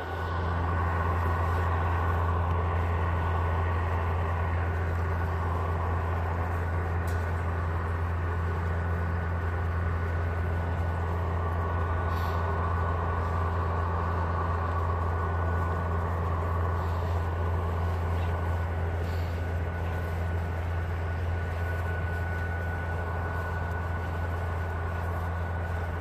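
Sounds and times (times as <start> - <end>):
power line hum and hiss: 0.0 - 26.0.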